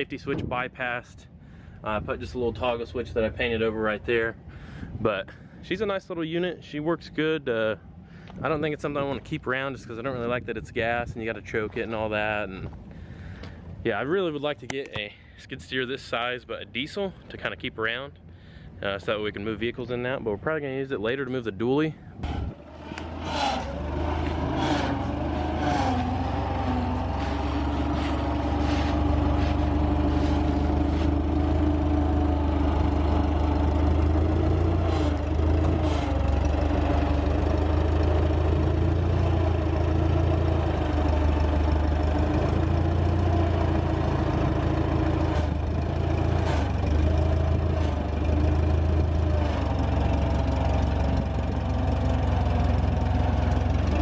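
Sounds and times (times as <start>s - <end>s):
engine rumbling: 0.0s - 54.0s.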